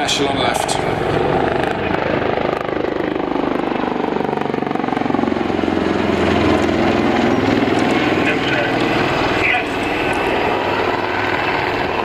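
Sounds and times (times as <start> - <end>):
helicopter rotors beating: 0.0 - 12.0
turboshaft engines running: 0.0 - 12.0.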